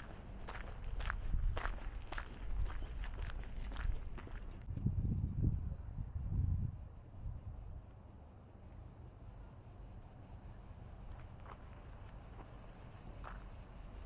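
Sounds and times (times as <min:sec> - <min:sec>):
insects singing in pulsing chorus: 0:00.0 - 0:14.0.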